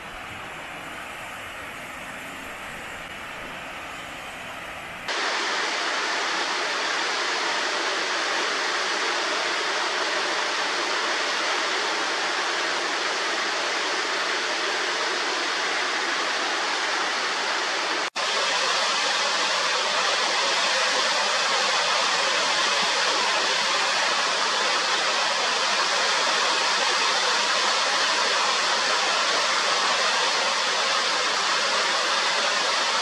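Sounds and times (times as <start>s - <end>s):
waterfall rushing down rocks: 0.0s - 33.0s.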